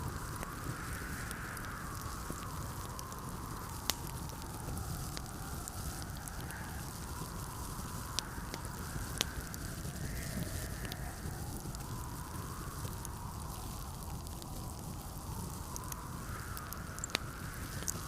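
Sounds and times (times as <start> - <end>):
blizzard wind rushing: 0.0 - 18.0
wood fire crackling: 0.0 - 18.0.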